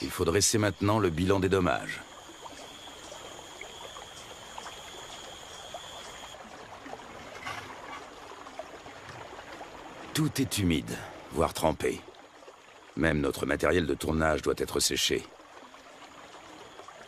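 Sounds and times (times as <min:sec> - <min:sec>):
running and trickling water: 0:00.0 - 0:17.0.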